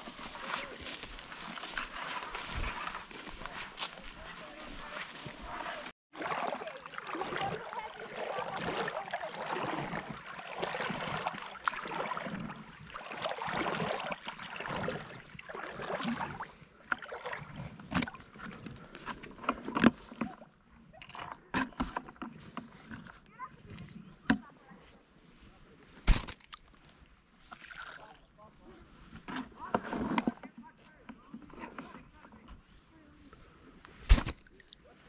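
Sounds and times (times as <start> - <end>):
paddle splashing in water: 0.0 - 35.0.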